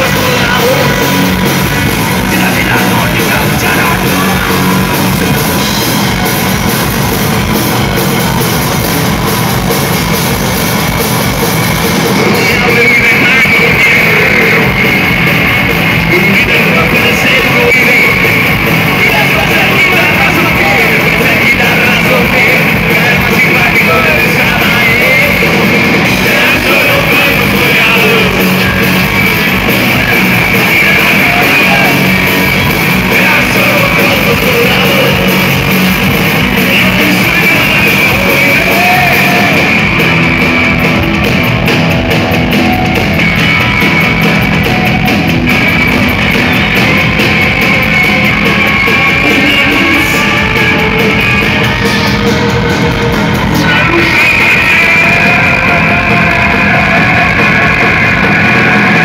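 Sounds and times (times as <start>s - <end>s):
man singing: 0.0s - 6.6s, 12.0s - 40.9s, 43.2s - 59.0s
bass guitar: 0.0s - 59.0s
drum kit: 0.0s - 59.0s
electric guitar: 0.0s - 59.0s.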